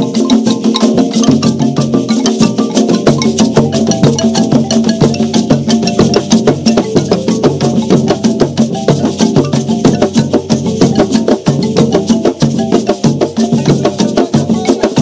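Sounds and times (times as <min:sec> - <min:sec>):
background music with percussion beat: 0:00.0 - 0:15.0.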